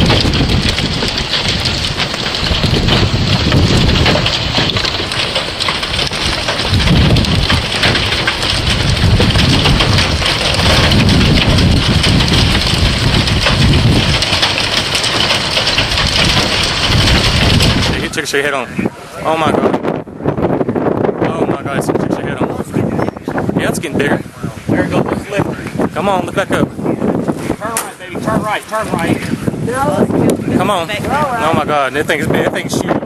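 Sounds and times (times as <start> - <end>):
heavy rain and wind: 0.0 - 33.0
low rumbling thunder: 0.0 - 33.0.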